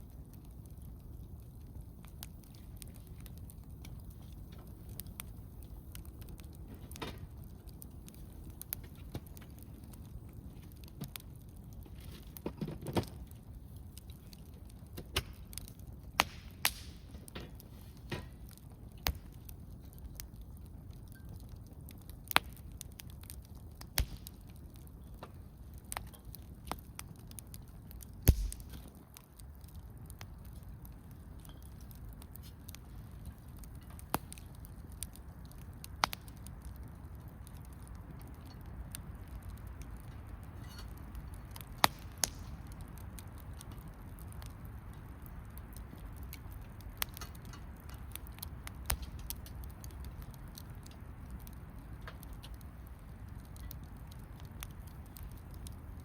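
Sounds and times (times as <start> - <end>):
campfire crackling: 0.0 - 56.0
low steady hiss: 0.0 - 56.0
sharp fire pops: 0.0 - 56.0.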